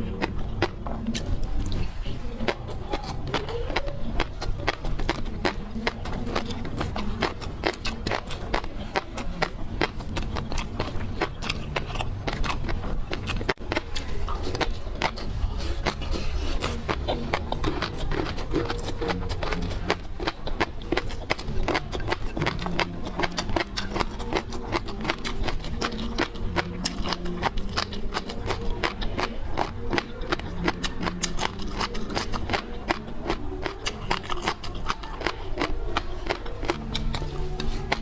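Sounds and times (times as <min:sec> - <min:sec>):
crunchy chewing: 0:00.0 - 0:38.0
faint background music: 0:00.0 - 0:38.0.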